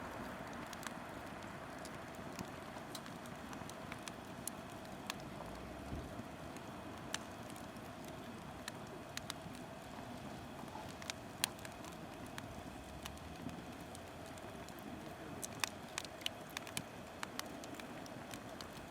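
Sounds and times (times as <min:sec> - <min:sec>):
firewood crackling and popping: 0:00.0 - 0:18.9
steady hiss of fire: 0:00.0 - 0:18.9.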